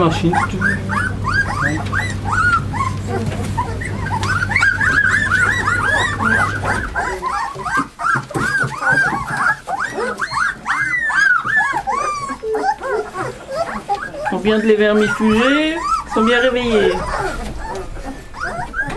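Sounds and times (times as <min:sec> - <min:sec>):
low steady hum: 0:00.0 - 0:08.1, 0:10.2 - 0:18.9
puppies crying: 0:00.0 - 0:18.9.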